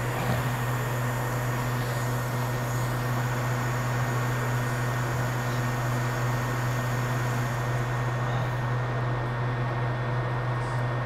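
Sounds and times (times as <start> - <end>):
blower electric hum: 0.0 - 11.0.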